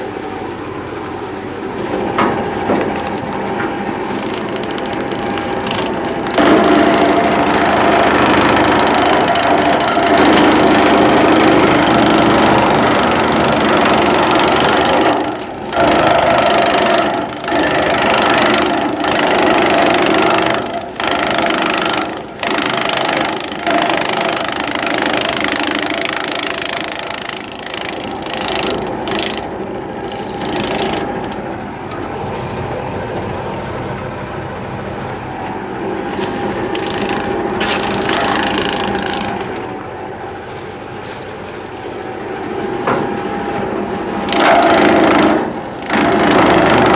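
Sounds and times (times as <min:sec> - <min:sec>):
grass chopper machine clattering: 0:00.0 - 0:46.9.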